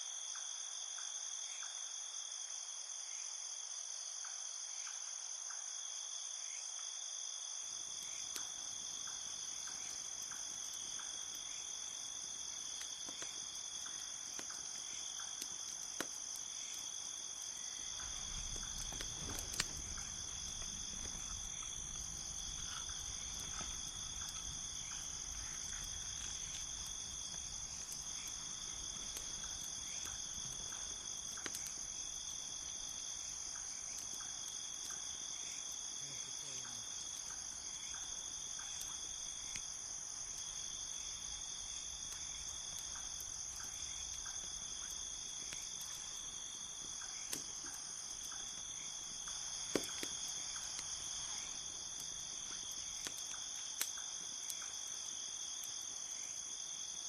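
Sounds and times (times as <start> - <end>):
crickets chirping: 0.0 - 57.0
campfire crackling and popping: 7.4 - 57.0.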